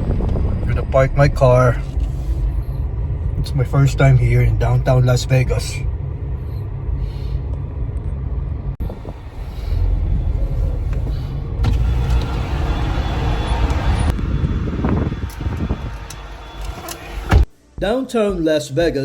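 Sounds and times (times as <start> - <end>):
car engine and road rumble: 0.0 - 17.5.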